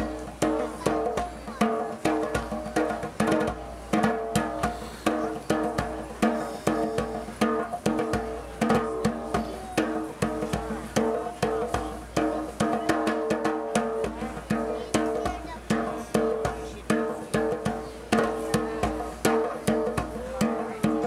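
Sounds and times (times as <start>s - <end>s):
bongos hand drumming: 0.0s - 21.0s.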